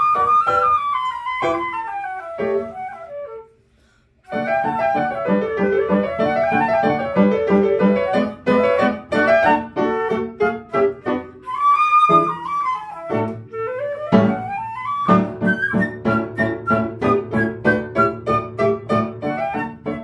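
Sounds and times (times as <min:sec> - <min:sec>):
flute: 0:00.0 - 0:20.0
piano: 0:00.0 - 0:20.0.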